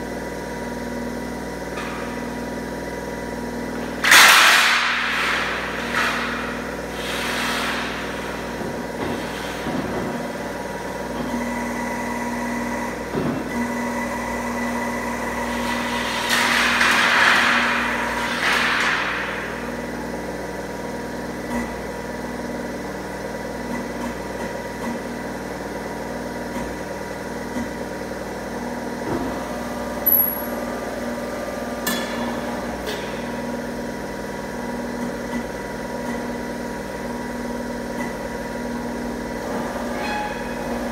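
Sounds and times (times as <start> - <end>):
bending machine motor hum: 0.0 - 40.9.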